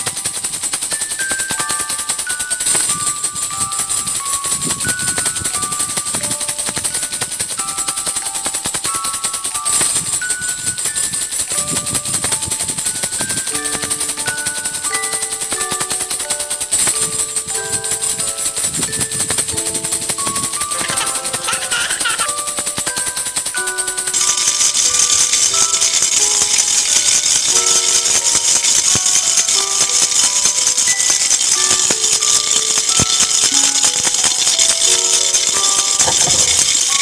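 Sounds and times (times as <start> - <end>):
baby rattle shaking: 0.0 - 37.0
simple melody of single notes: 0.0 - 37.0.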